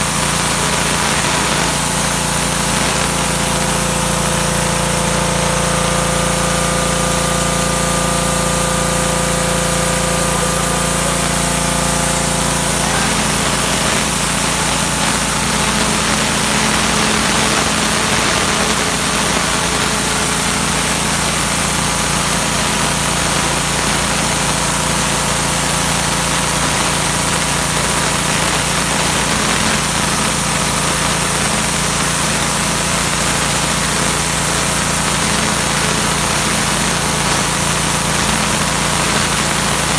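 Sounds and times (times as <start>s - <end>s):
high-pressure water jet hissing: 0.0s - 39.9s
pressure washer engine hum: 0.0s - 39.9s.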